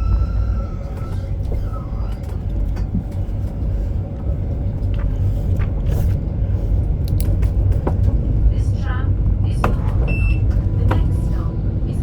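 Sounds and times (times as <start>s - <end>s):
tram wheels rumbling on rail: 0.0s - 12.0s.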